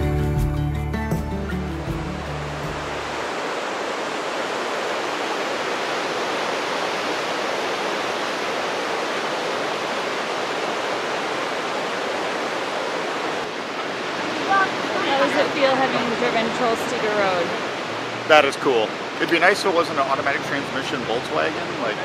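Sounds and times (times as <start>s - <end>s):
waterfall rushing: 1.4s - 22.0s.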